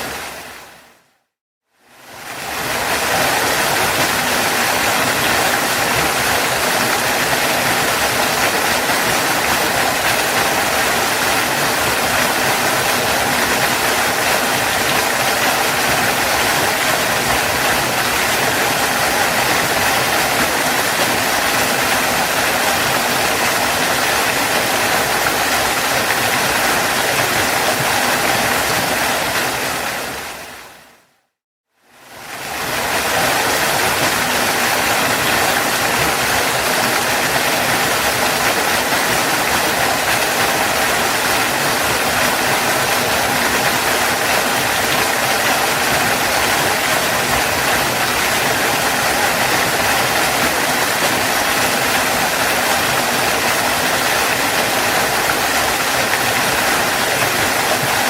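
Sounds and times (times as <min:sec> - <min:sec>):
waterfall rushing: 0:00.0 - 0:01.0, 0:01.9 - 0:31.0, 0:32.0 - 0:58.0.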